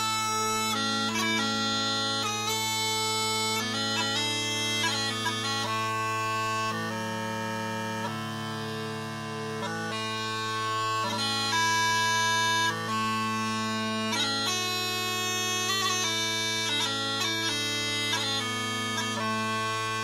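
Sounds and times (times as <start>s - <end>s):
bagpipe drones: 0.0s - 20.0s
smallpipes chanter melody: 0.0s - 20.0s.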